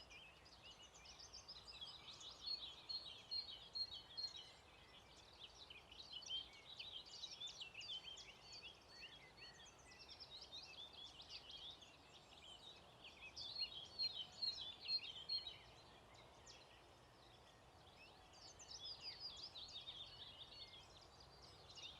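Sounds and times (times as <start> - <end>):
faint outdoor hiss: 0.0 - 21.9
songbirds chirping: 0.0 - 21.9.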